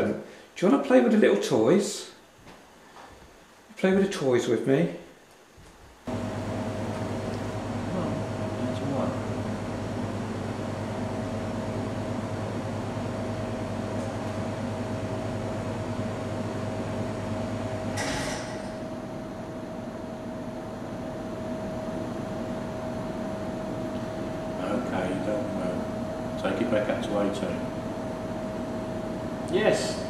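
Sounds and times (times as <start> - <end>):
electrical hum and hiss: 0.0 - 30.0.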